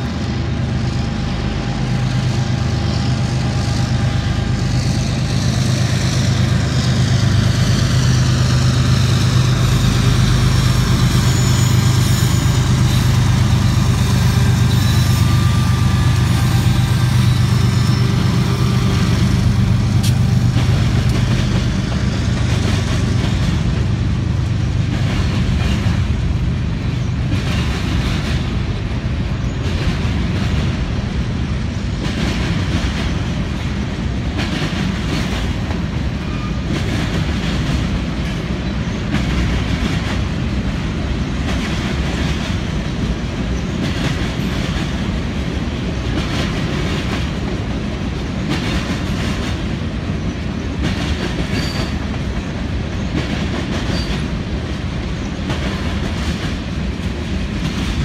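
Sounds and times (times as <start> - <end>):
freight cars rolling by: 0.0 - 58.0
locomotive engines droning: 0.0 - 58.0.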